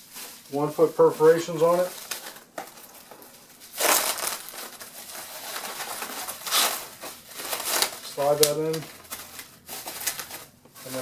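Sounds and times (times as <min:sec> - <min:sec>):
bubble wrap bursts: 0:00.0 - 0:11.0
bubble wrap rustling: 0:00.0 - 0:11.0.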